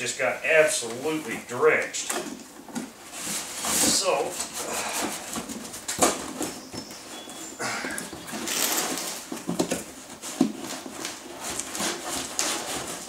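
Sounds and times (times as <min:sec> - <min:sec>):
wet cardboard rustling and scraping: 0:00.5 - 0:13.0.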